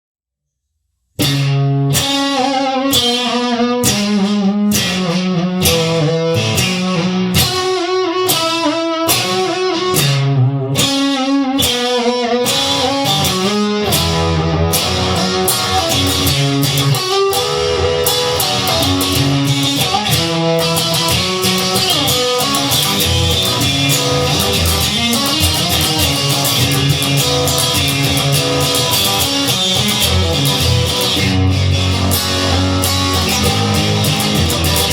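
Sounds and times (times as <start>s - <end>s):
bass guitar: 1.2s - 34.9s
guitar strumming chords: 1.2s - 34.9s.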